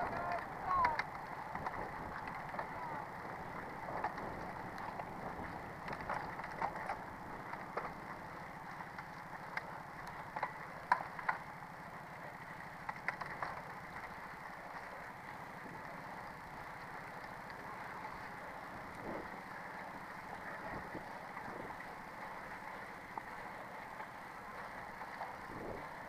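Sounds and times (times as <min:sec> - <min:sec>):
bicycle tyres rolling on gravel: 0:00.0 - 0:26.0
bike and stones rattling: 0:00.0 - 0:26.0.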